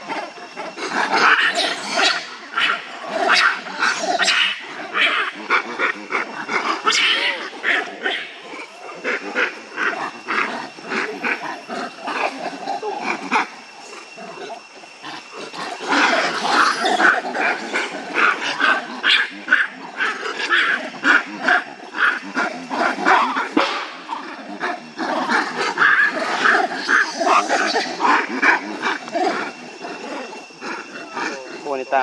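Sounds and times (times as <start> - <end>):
monkeys barking and screeching: 0.0 - 32.0.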